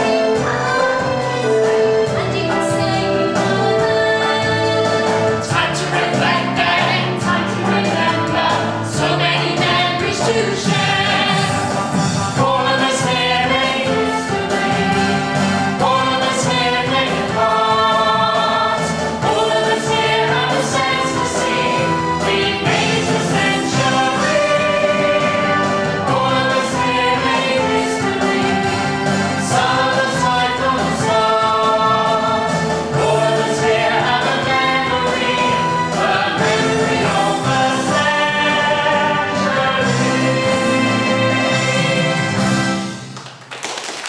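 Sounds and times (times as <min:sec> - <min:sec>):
group singing a show tune: 0:00.0 - 0:42.9
steady musical accompaniment: 0:00.0 - 0:44.0.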